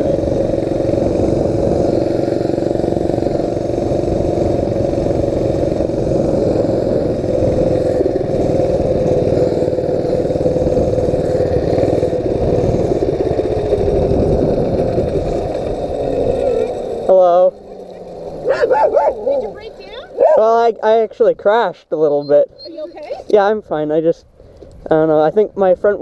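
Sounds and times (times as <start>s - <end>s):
small engine running: 0.0s - 21.3s.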